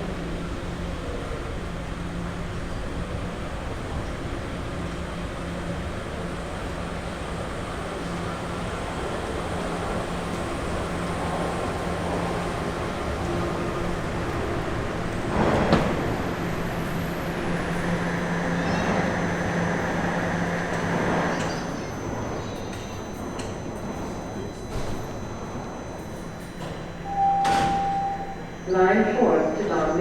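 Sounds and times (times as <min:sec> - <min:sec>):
subway train running: 0:00.0 - 0:30.0.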